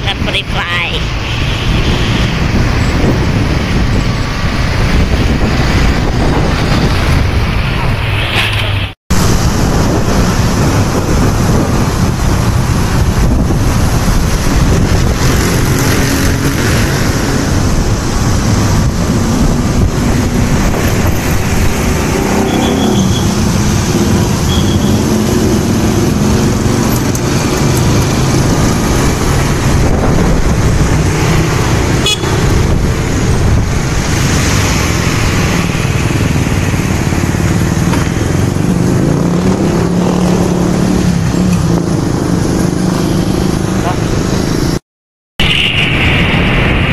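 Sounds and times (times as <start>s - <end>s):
traffic noise: 0.0s - 44.8s, 45.4s - 46.9s
motorcycle engine: 1.5s - 44.8s.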